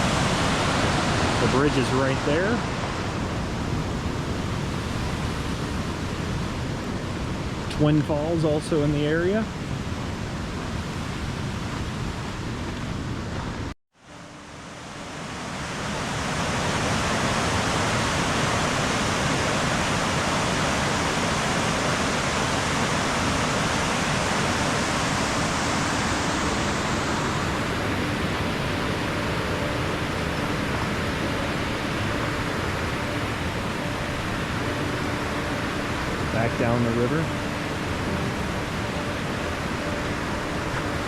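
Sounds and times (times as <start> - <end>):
waterfall rushing: 0.0 - 10.1, 14.1 - 41.0.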